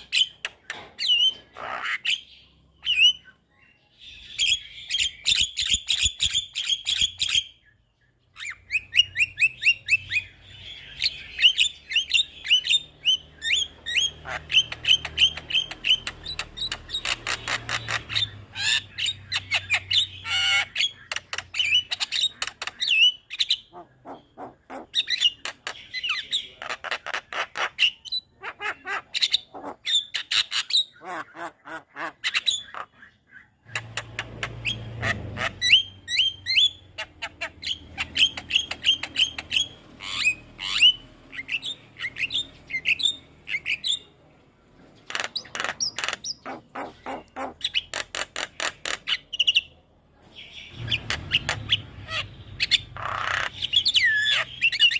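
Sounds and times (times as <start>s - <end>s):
bird chattering and whistling: 0.0s - 44.3s, 44.9s - 54.9s.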